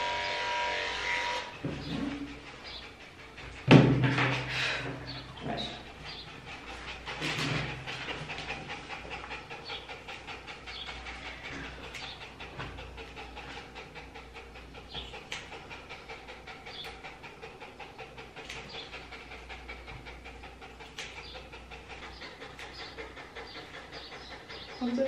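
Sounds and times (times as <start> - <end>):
dog panting: 1.2 - 25.0.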